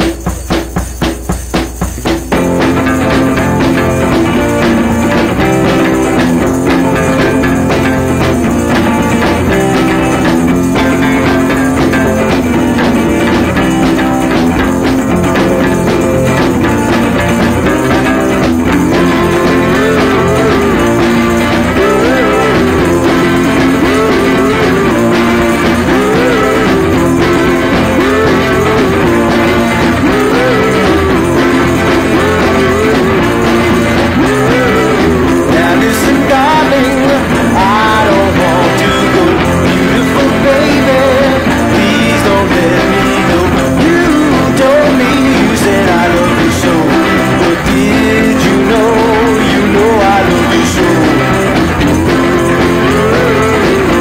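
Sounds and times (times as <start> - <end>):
rock music with guitar: 0.0 - 54.0.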